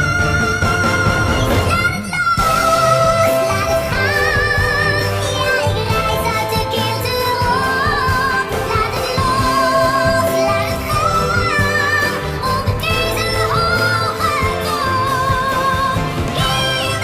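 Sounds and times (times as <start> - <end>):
woman singing pop ballad: 0.1 - 17.0.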